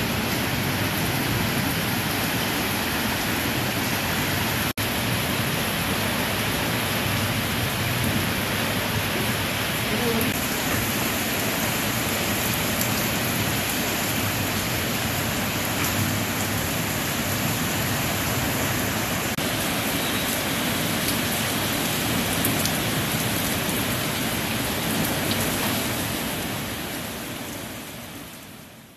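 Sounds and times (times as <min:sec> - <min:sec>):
heavy rain on pavement: 0:00.0 - 0:28.9.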